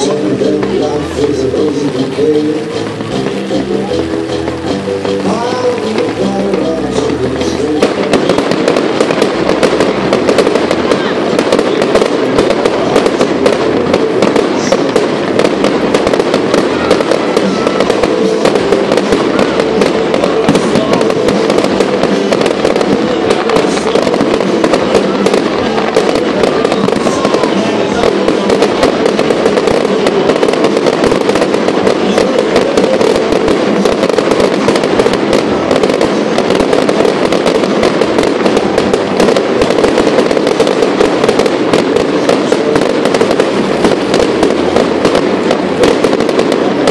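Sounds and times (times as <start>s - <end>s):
fireworks crackling and banging: 0.0s - 46.9s.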